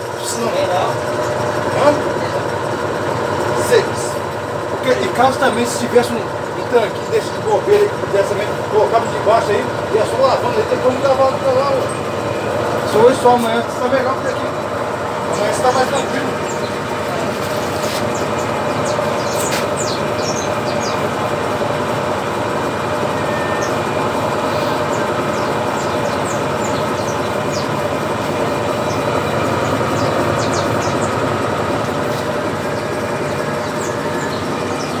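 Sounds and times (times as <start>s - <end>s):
washing machine spinning: 0.0s - 35.0s.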